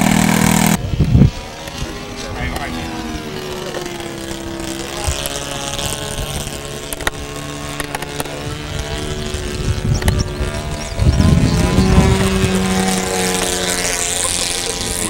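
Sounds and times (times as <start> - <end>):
model airplane motor buzzing: 0.0 - 15.0.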